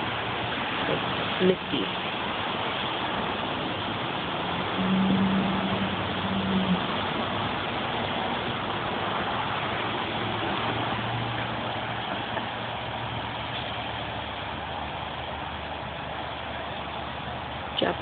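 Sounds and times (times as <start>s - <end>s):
low engine hum: 0.0s - 18.0s
traffic on wet road: 0.0s - 18.0s.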